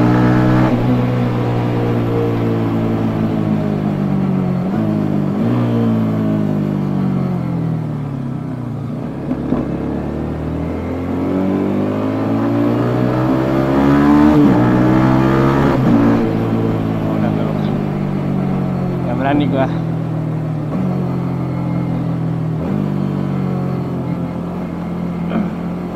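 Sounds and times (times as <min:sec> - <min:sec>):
motorcycle engine while riding: 0:00.0 - 0:25.9.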